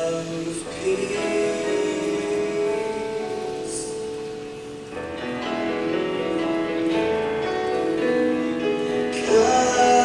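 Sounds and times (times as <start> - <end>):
held piano chords: 0.0 - 10.0.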